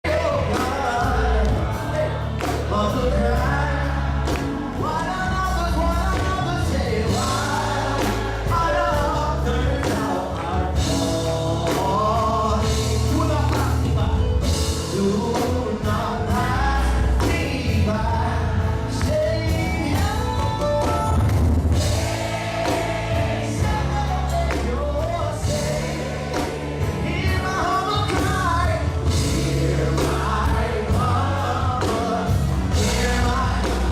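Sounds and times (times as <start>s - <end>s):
voices singing together: 0.0s - 13.8s, 14.4s - 20.1s, 21.7s - 33.9s
band with bass and drums: 0.0s - 33.9s.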